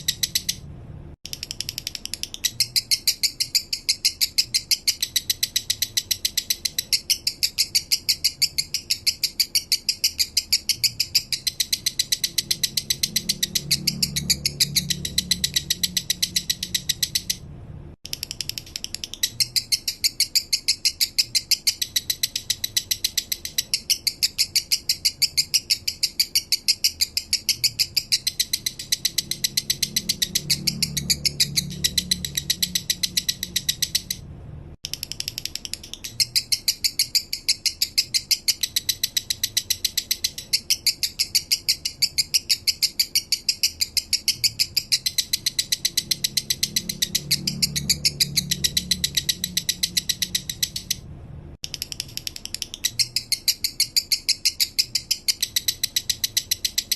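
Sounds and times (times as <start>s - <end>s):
lovebird chirping: 0.0s - 0.6s, 1.3s - 17.5s, 18.1s - 34.2s, 34.9s - 56.9s.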